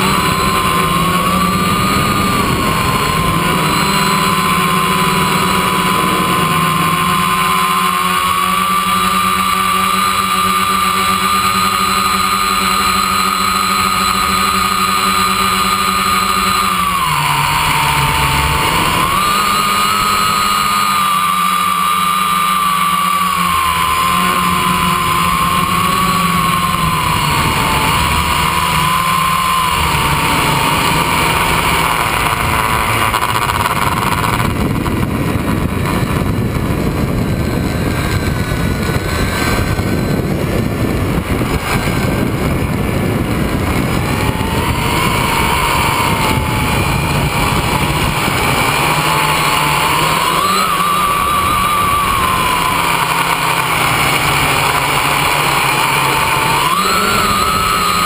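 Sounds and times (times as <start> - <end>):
drone propellers whining: 0.0 - 58.0
rough rushing noise: 0.0 - 58.0.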